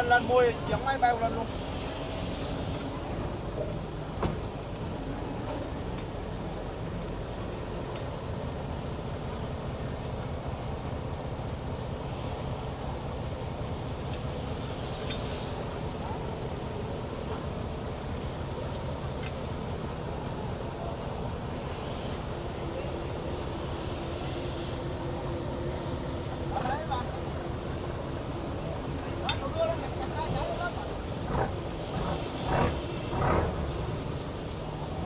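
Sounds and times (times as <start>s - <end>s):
boat engine rumbling: 0.0s - 35.0s.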